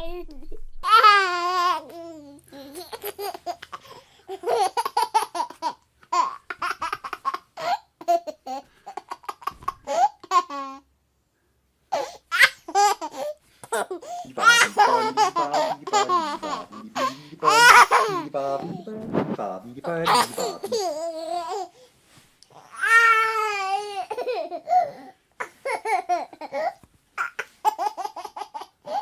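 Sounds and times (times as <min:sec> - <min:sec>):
baby giggling: 0:00.0 - 0:10.8, 0:11.9 - 0:19.0, 0:20.0 - 0:21.7, 0:22.6 - 0:29.0.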